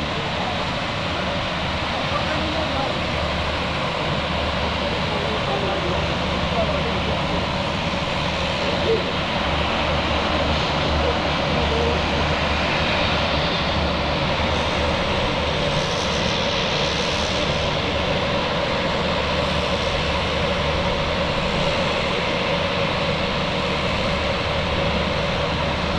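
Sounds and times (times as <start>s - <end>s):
turboprop plane engines droning: 0.0s - 25.9s.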